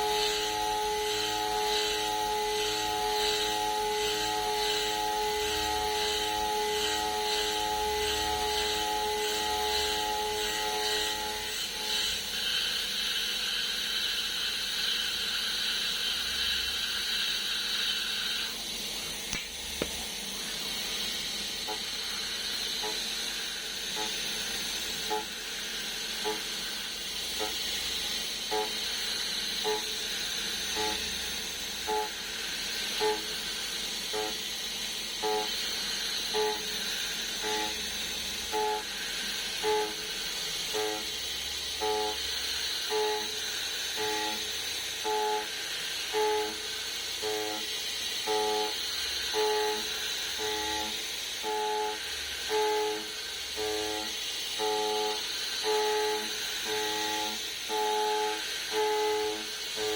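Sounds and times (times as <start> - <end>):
end mill cutting whine: 0.0 - 59.9.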